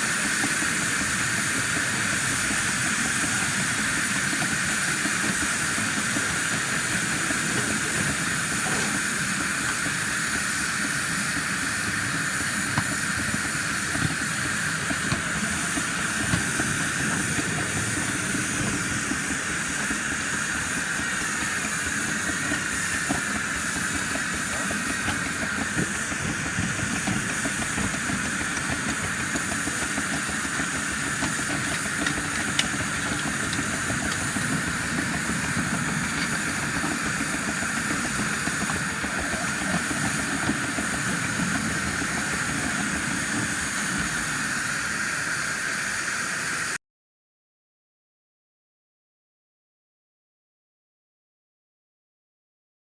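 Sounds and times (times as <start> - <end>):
steam hissing: 0.0 - 46.8.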